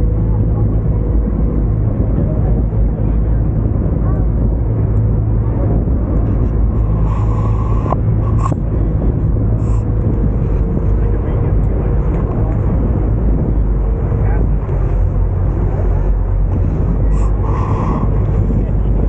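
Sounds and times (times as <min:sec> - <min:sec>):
boat engine rumbling: 0:00.0 - 0:19.0
wind noise: 0:00.0 - 0:19.0.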